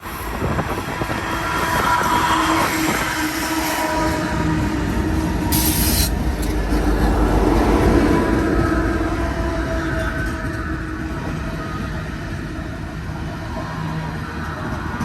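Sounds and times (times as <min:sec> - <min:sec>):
diesel locomotives rumbling past: 0:00.0 - 0:15.0.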